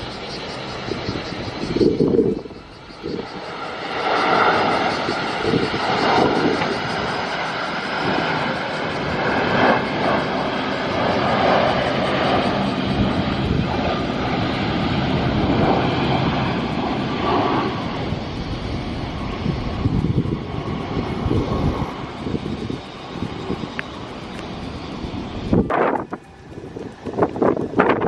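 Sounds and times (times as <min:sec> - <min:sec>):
jet engines running: 0:00.0 - 0:28.0
wind buffeting microphone: 0:00.0 - 0:28.0.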